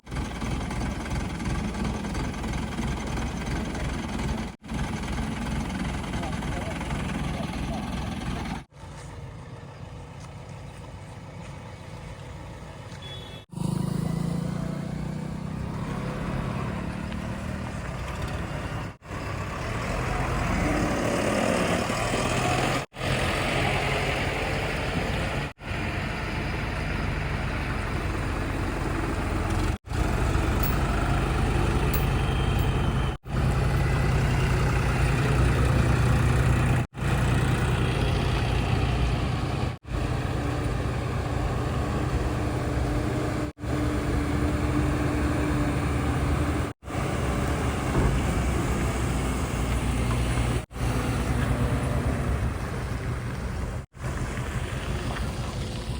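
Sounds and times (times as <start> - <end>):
diesel engines running: 0.0 - 55.9.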